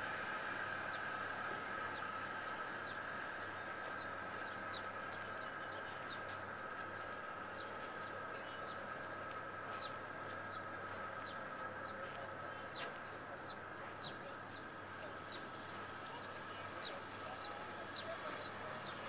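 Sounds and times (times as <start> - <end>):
small birds chirping: 0.8 - 19.0.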